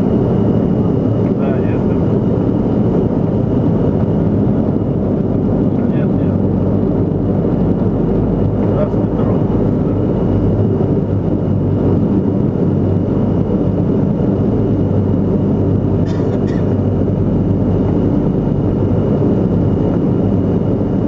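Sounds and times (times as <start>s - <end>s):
low hum: 0.0s - 21.0s
turboprop engines droning: 0.0s - 21.0s.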